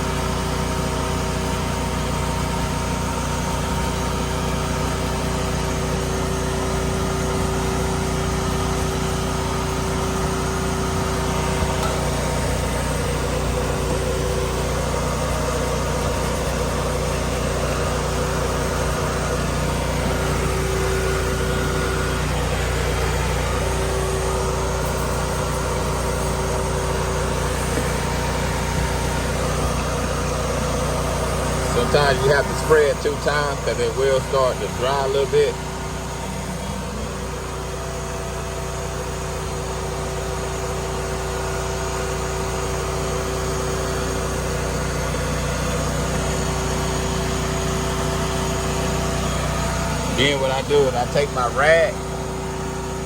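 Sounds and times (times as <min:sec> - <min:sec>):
motor humming steadily: 0:00.0 - 0:53.0.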